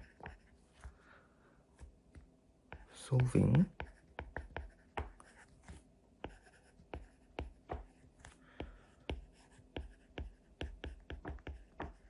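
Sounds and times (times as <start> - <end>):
stylus tapping on tablet screen: 1.8 - 12.0.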